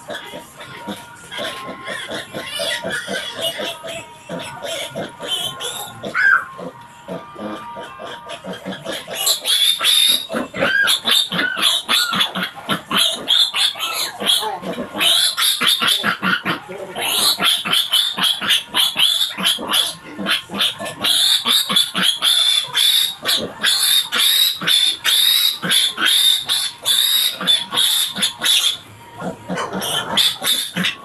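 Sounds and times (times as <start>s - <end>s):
piglet squealing: 0.1s - 31.0s.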